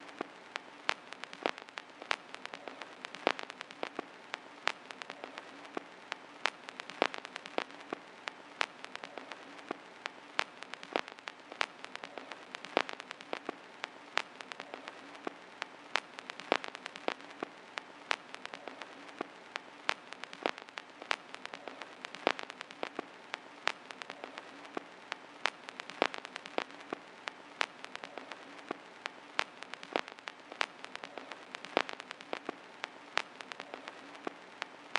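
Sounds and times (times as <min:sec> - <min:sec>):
vinyl crackles and pops: 0:00.0 - 0:34.9
vinyl surface hiss: 0:00.0 - 0:34.9.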